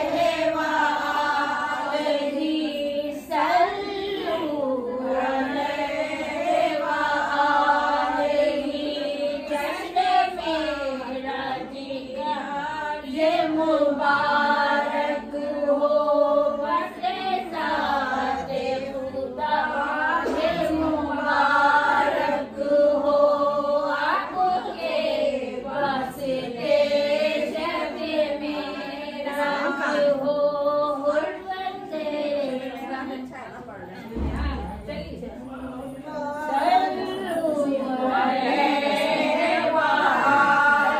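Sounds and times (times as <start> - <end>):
women singing a chant: 0.0 - 40.9.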